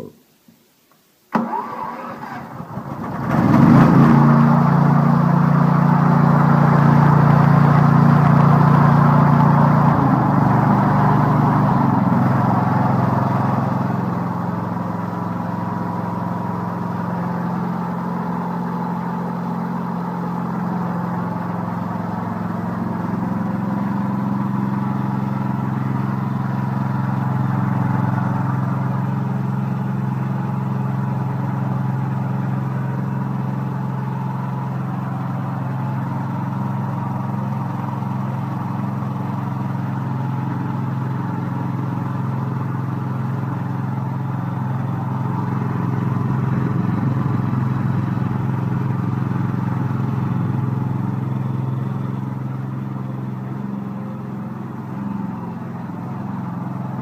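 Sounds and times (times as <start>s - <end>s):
engine running steadily: 1.4s - 57.0s.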